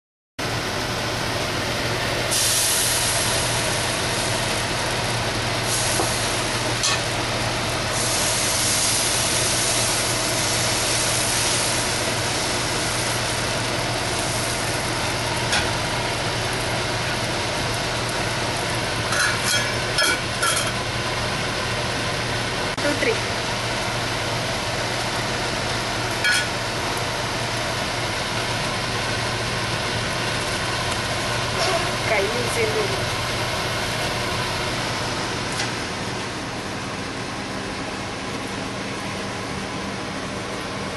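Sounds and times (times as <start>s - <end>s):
low hum with hiss: 0.4s - 40.9s.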